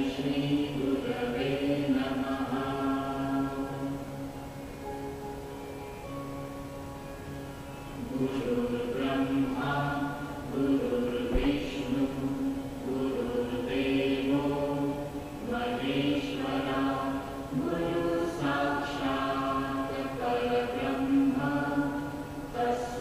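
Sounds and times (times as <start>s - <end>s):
voices chanting a mantra: 0.0s - 4.6s, 8.0s - 23.0s.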